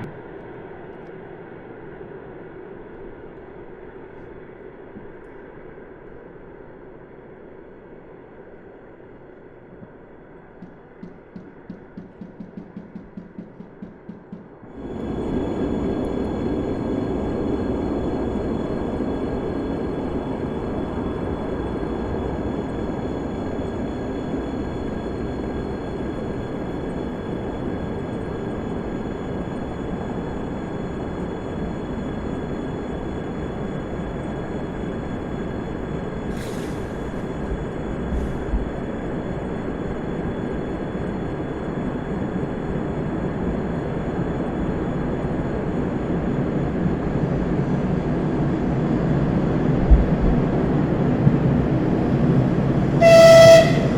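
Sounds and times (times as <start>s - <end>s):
electric train rumbling: 0.0s - 53.9s.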